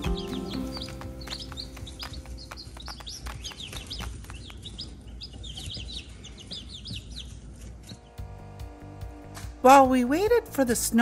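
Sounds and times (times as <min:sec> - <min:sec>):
baby chicks peeping: 0:00.0 - 0:09.2.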